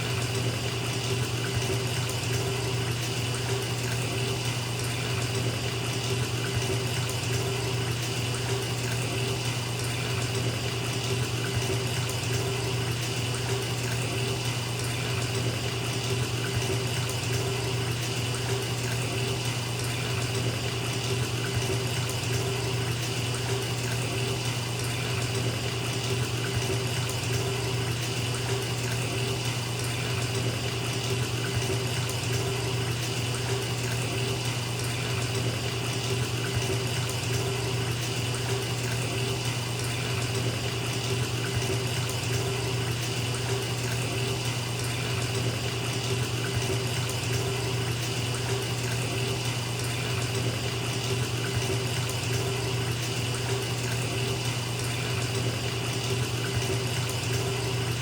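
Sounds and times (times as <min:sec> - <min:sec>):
water pouring into bathtub: 0:00.0 - 0:58.0.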